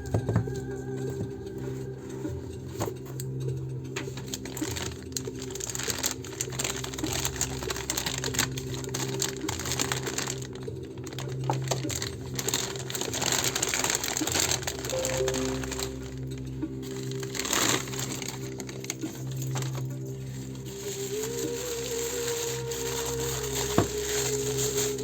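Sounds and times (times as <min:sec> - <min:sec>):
packaging crinkling and rustling: 0:00.0 - 0:25.0
steady low tone: 0:00.0 - 0:25.0.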